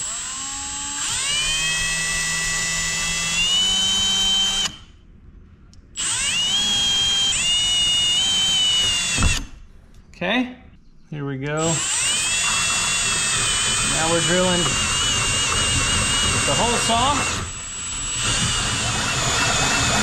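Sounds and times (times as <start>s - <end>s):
power drill with hole saw whining: 0.0s - 4.9s, 6.0s - 9.5s, 11.6s - 20.0s.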